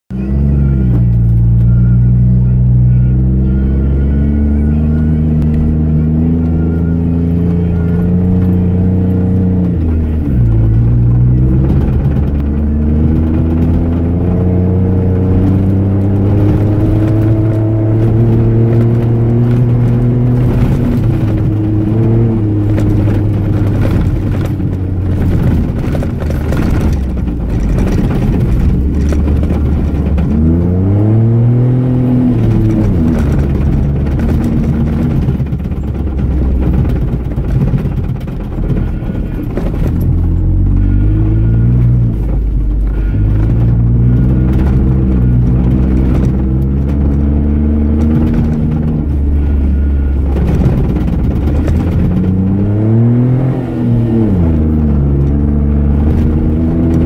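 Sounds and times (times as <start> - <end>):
car engine accelerating: 0.1 - 57.0
vehicle rattling over dirt track: 0.1 - 57.0.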